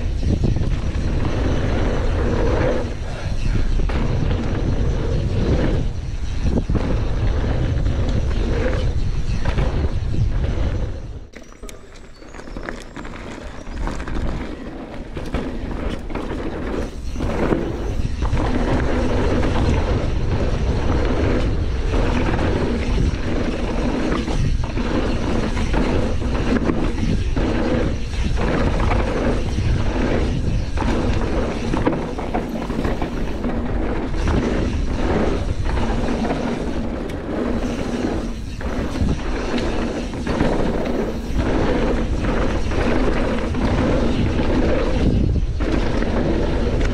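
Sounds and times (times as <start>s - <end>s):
bike chain and frame rattling: 0.0s - 46.9s
tyres rolling over dirt: 0.0s - 46.9s
wind rushing over microphone: 0.0s - 46.9s.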